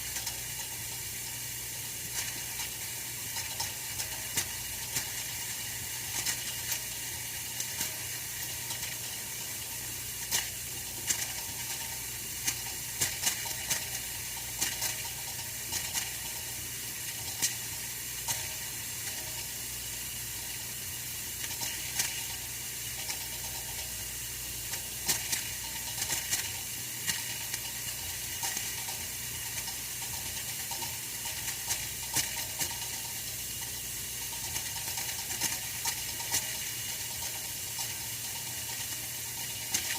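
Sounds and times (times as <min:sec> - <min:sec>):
heater hissing and humming: 0:00.0 - 0:39.9
heater ticks and crackles: 0:00.0 - 0:39.9.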